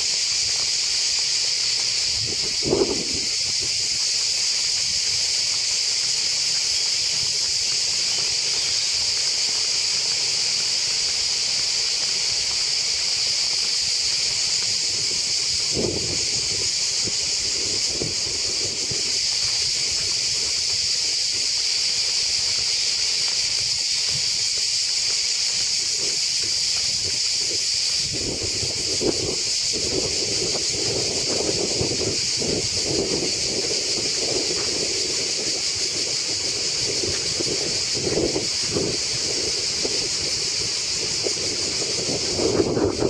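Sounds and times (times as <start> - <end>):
cicadas singing: 0.0 - 43.0.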